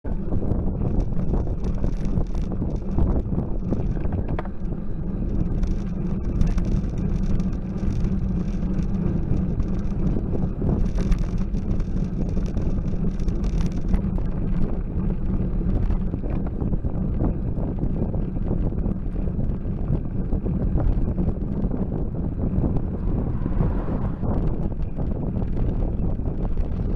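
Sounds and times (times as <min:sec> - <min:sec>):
wind buffeting microphone: 0:00.0 - 0:26.9
tyre noise on tarmac: 0:00.1 - 0:26.9
bicycle clicks and knocks: 0:00.6 - 0:23.2.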